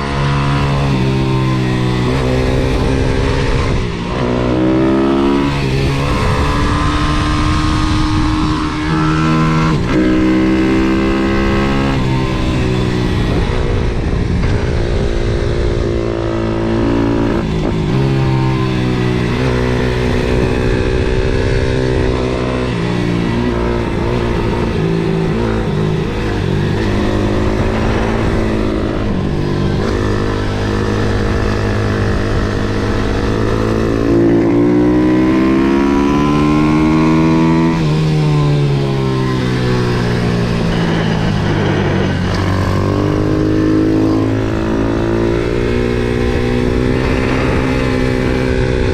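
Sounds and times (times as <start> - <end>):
motorbike engine revving: 0.0 - 48.9.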